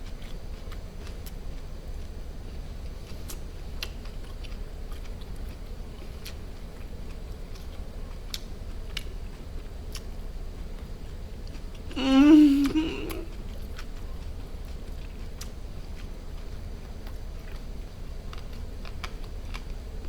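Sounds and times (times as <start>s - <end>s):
chewing and mouth noises: 0.0s - 2.1s, 2.9s - 19.9s
low steady hum: 0.0s - 20.0s.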